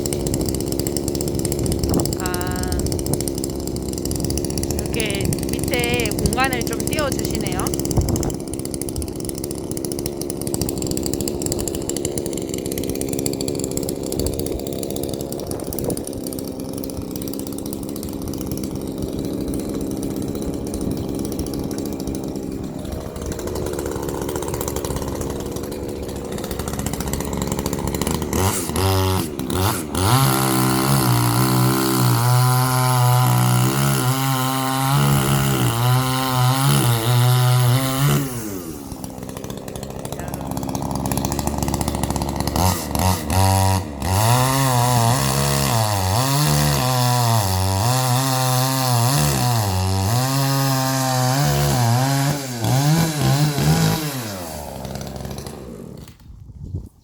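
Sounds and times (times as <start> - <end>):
chainsaw idling and revving: 0.0 - 56.6
chainsaw cutting log: 0.0 - 56.7.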